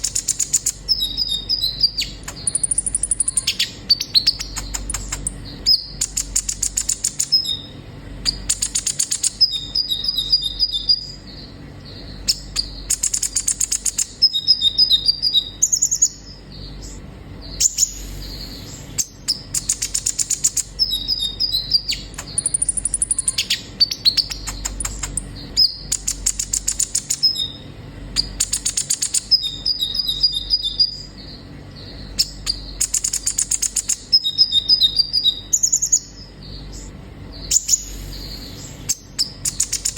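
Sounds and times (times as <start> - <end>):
sunbird singing buzzy trills: 0.0 - 39.9.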